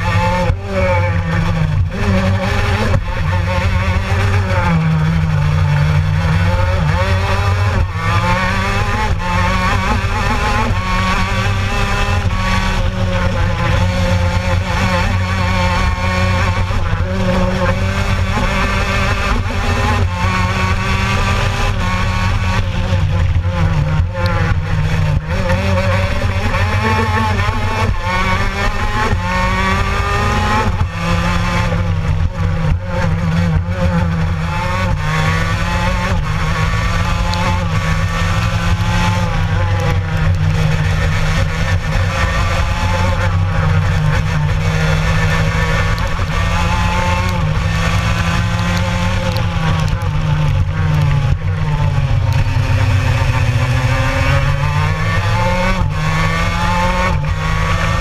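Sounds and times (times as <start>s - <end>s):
racing kart engine revving: 0.0s - 58.0s.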